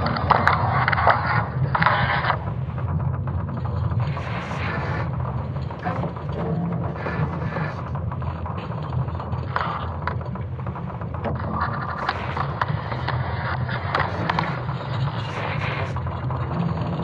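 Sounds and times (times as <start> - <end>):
creaks: 0.0 - 17.0
deep steady rumble: 0.0 - 17.0
scattered clicks: 0.0 - 17.0.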